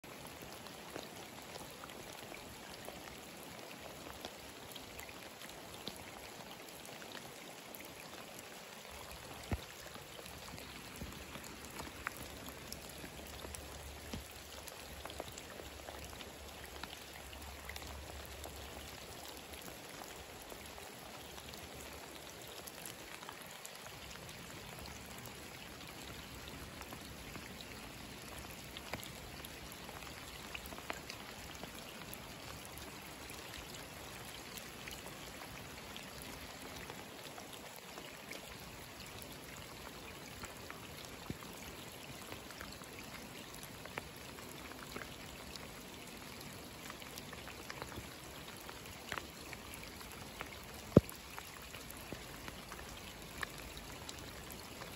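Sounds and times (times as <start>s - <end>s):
rain falling on water: 0.0s - 54.9s
drops ticking and splashing: 0.4s - 38.0s, 46.5s - 54.9s.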